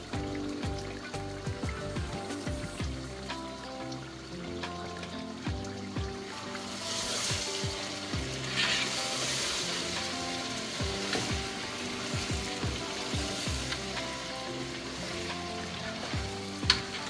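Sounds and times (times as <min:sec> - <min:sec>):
background music with deep beat: 0:00.0 - 0:17.0
food sizzling in a pot: 0:00.0 - 0:17.0.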